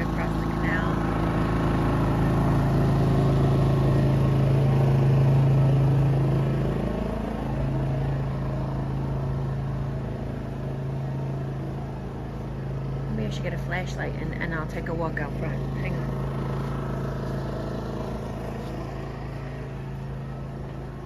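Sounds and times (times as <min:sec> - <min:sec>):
generator engine humming: 0:00.0 - 0:21.0.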